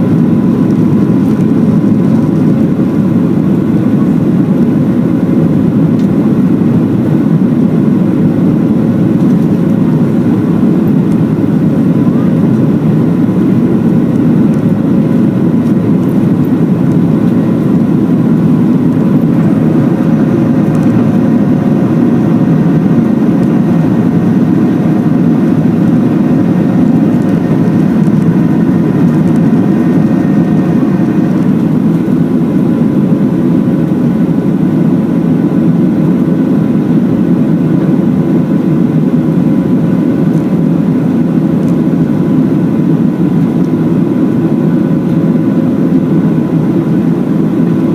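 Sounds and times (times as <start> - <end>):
jet engine rumble in cabin: 0.0 - 47.9.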